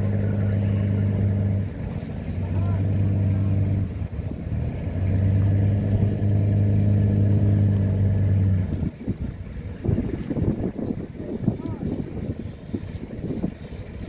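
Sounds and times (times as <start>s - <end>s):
boat engine humming: 0.0s - 14.0s
low rumble: 0.0s - 14.0s.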